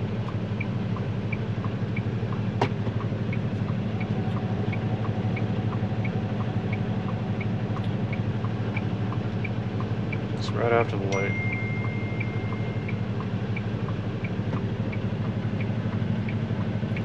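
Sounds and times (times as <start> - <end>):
truck engine running: 0.0 - 17.0
turn signal ticking: 0.0 - 17.0.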